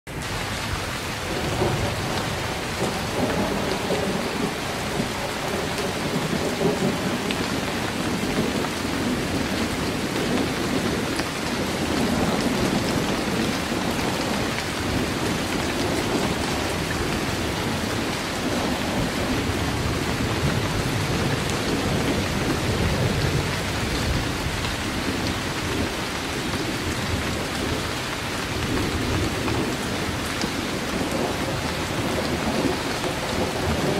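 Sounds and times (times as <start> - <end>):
heavy rain: 0.1 - 33.9
low thunder rumbling: 0.3 - 33.9.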